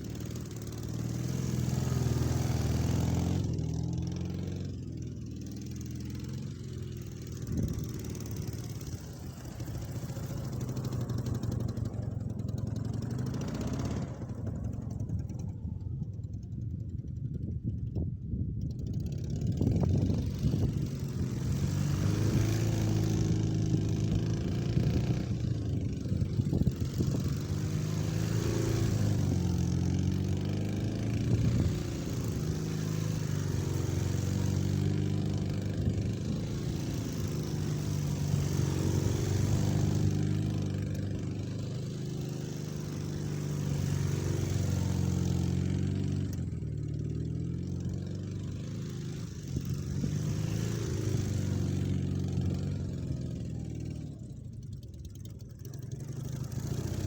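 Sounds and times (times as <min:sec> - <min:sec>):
motorcycle engine revving: 0:00.0 - 0:17.8, 0:18.6 - 0:57.0.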